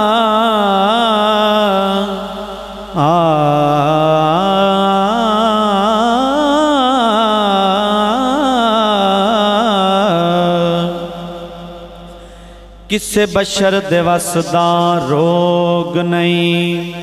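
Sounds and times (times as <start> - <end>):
man singing into microphone: 0.0 - 12.2, 12.9 - 17.0.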